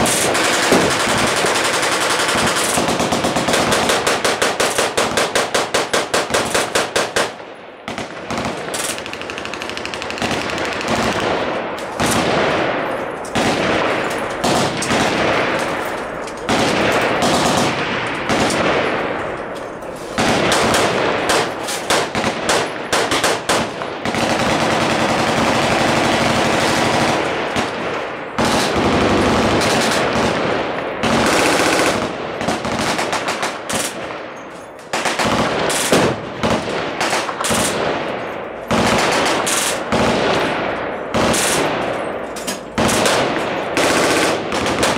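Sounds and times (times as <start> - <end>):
machine gun automatic fire: 0.0 - 19.0, 20.2 - 34.1, 34.9 - 38.0, 38.6 - 42.1, 42.7 - 44.9.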